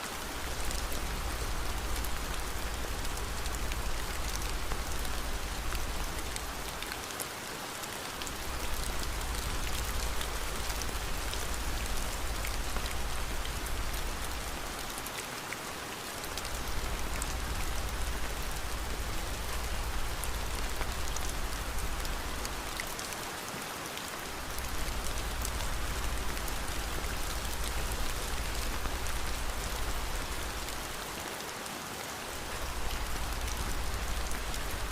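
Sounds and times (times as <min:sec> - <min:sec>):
sharp rain ticks: 0:00.0 - 0:34.9
steady rain hissing: 0:00.0 - 0:34.9.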